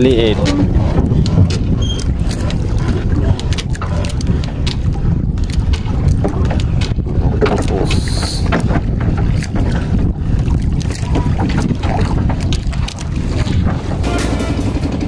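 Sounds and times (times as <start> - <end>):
open water: 0.0 - 15.0
wind buffeting microphone: 0.0 - 15.0.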